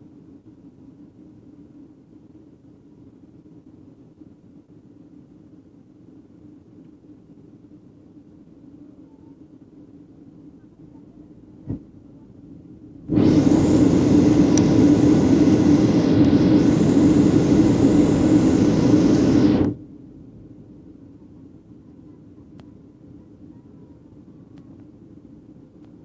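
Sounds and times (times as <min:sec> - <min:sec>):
airliner engine roar in cabin: 0:00.0 - 0:26.0
quiet steady hum: 0:00.0 - 0:26.0.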